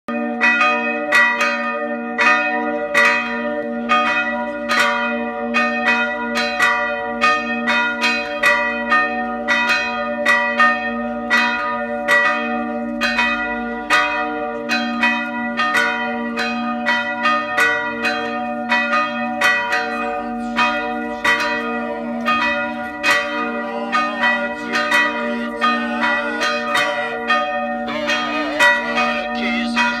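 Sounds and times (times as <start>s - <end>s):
church bells ringing: 0.1s - 30.0s.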